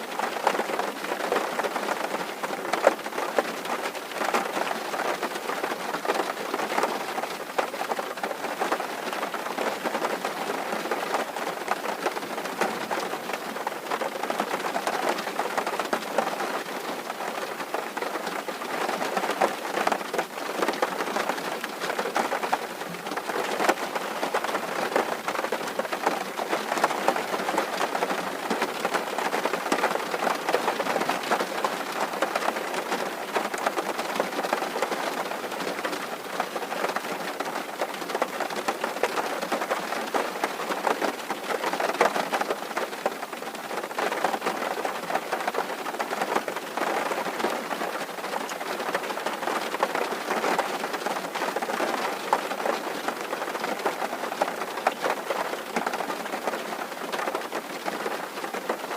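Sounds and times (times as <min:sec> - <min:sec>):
rain on a tin roof: 0:00.0 - 0:58.9.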